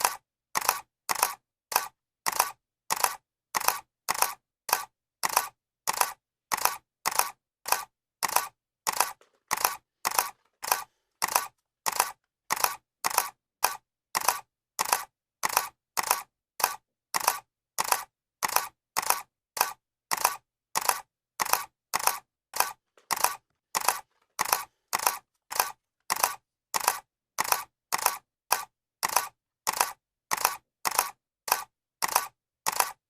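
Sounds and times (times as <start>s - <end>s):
camera shutter clicking: 0.0s - 33.0s.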